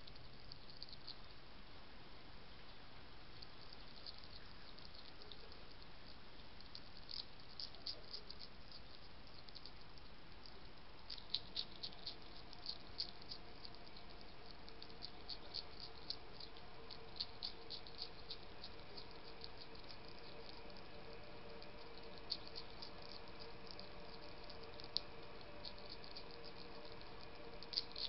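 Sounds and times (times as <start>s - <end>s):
hedgehog crunching food: 0.0s - 1.4s, 2.7s - 28.0s.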